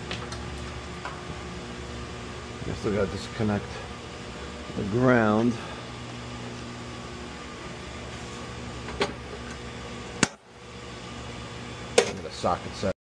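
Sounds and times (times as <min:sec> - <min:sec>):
fan-like machine hum: 0:00.0 - 0:13.0.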